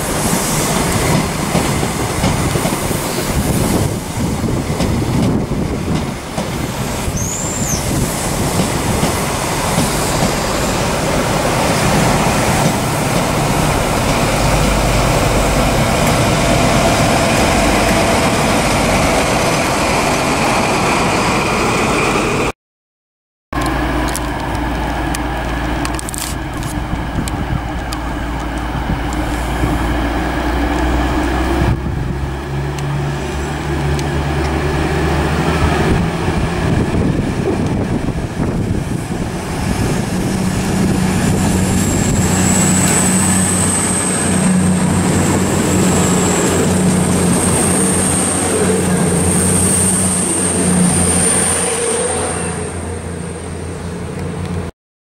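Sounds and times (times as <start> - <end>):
rush of passing train: 0.0 - 22.5, 23.6 - 54.7.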